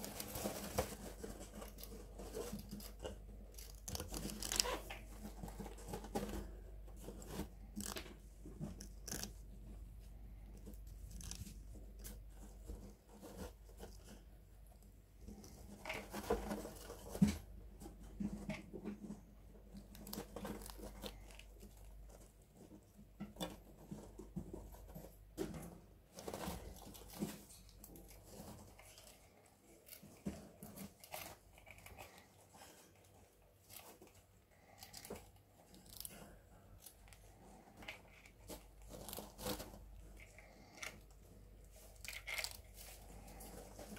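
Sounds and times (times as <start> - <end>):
rat gnawing and chewing food: 0.0 - 43.9.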